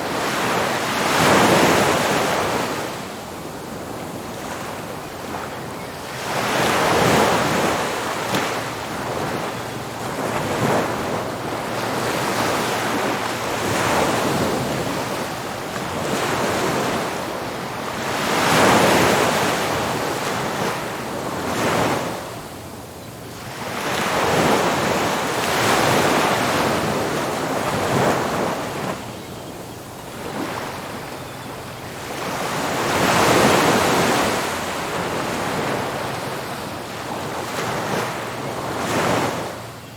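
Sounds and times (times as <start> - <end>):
ocean surf crashing on beach: 0.0 - 22.6, 23.4 - 29.1, 31.9 - 39.6.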